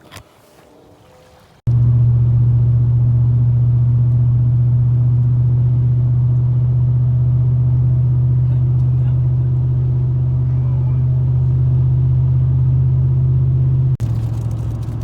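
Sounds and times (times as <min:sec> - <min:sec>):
boat motor droning: 0:01.0 - 0:15.0.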